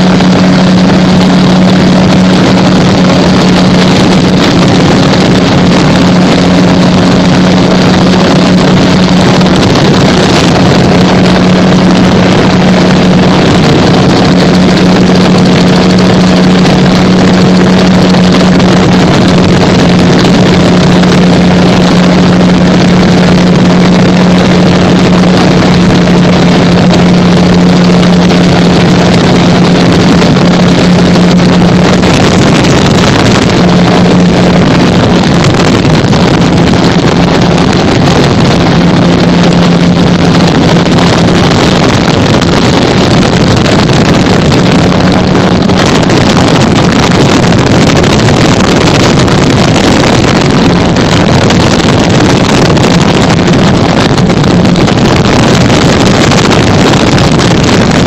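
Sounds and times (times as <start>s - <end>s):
gyrocopter engine and propeller: 0.0s - 58.0s
wind noise: 0.0s - 58.0s.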